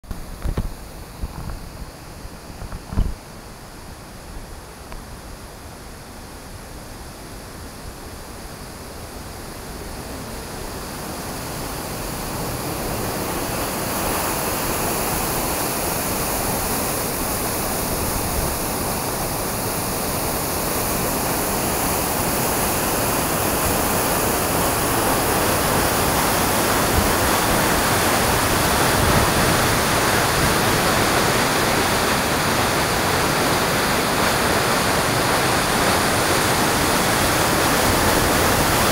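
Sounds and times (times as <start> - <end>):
waterfall rushing: 7.0 - 38.9.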